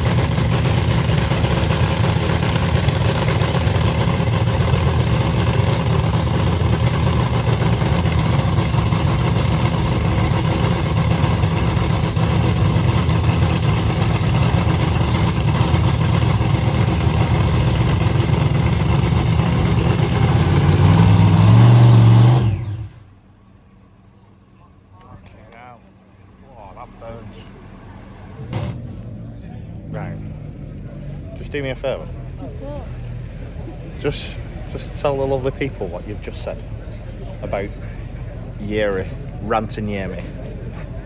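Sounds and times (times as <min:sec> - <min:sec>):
loud engine running: 0:00.0 - 0:41.0.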